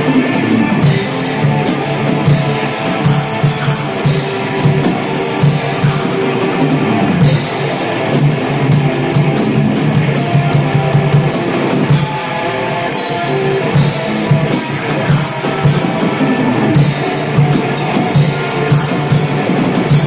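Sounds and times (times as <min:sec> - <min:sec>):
distorted electric guitars: 0:00.0 - 0:20.0
drum kit with cymbals: 0:00.0 - 0:20.0.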